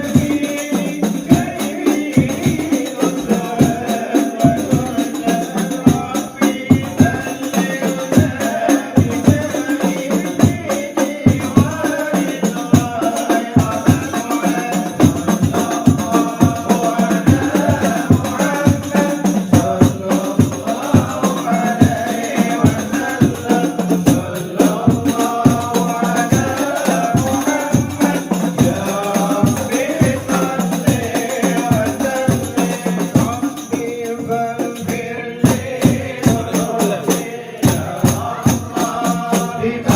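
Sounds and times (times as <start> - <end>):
frame drums with jingles: 0.0 - 39.9
group of voices singing: 0.0 - 39.9.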